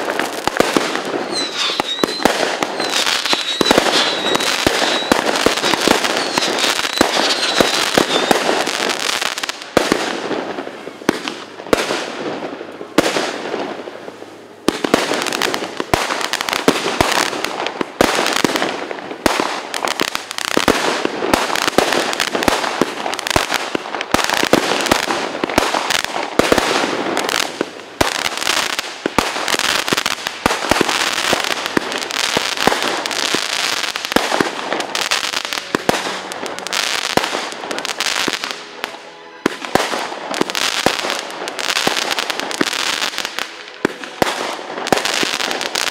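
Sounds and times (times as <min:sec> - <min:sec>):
fireworks bangs and crackle: 0:00.0 - 0:45.9.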